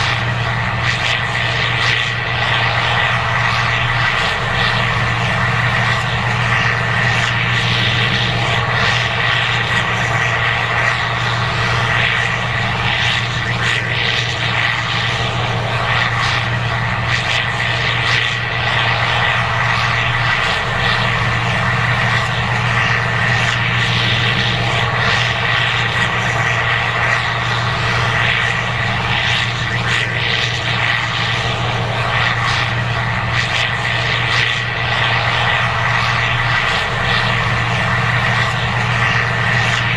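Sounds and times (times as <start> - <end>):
combine harvester engine drone: 0.0 - 39.9
steady high machine whine: 0.0 - 39.9.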